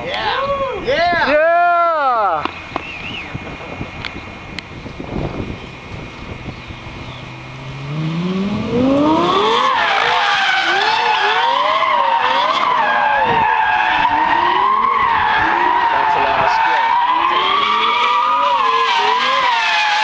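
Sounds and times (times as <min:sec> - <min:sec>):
tyres squealing: 0:00.0 - 0:20.0
car engine revving: 0:02.1 - 0:20.0.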